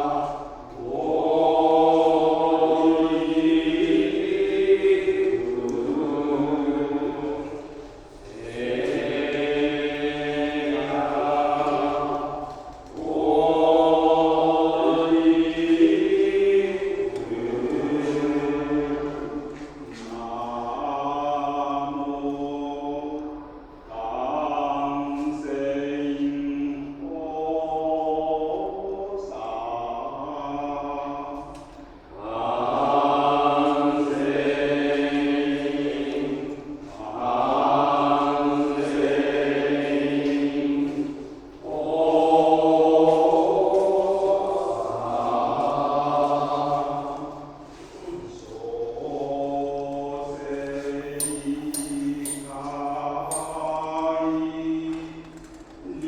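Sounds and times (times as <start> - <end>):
monks chanting: 0.0 - 56.0.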